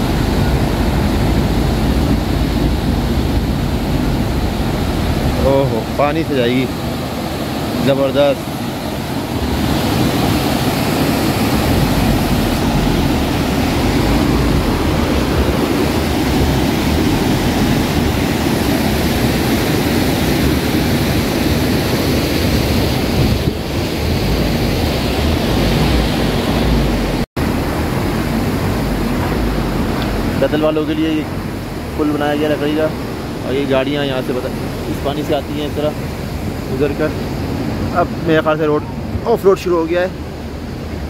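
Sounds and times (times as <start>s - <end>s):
stream water rushing: 0.0s - 41.0s.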